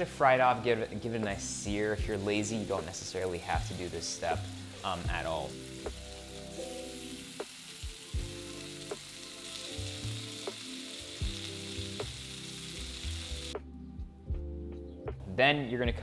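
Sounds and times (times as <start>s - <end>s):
beef sizzling in a frying pan: 0.0s - 13.6s
background music with steady beat: 0.0s - 16.0s.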